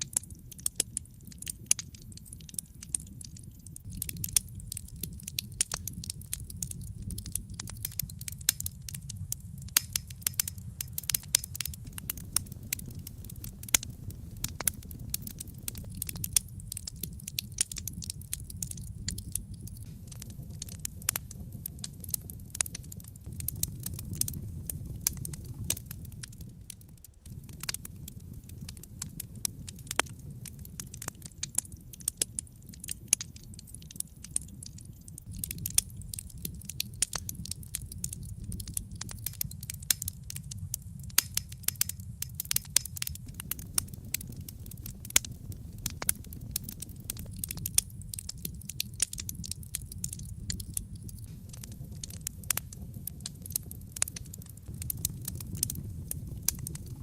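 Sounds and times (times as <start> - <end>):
low rumble of flame: 0.0 - 57.0
wood fire crackling and popping: 0.0 - 57.0.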